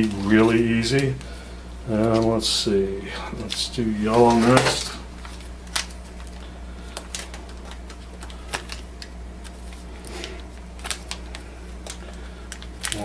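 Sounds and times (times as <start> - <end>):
plastic wrapper crinkling: 0.0 - 2.7, 3.3 - 13.0.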